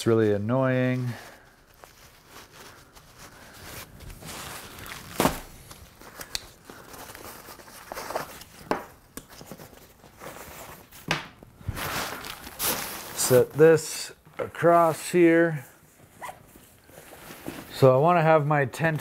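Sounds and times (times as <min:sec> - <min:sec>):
fabric rustling: 0:00.0 - 0:08.7, 0:09.4 - 0:13.7, 0:15.6 - 0:18.0.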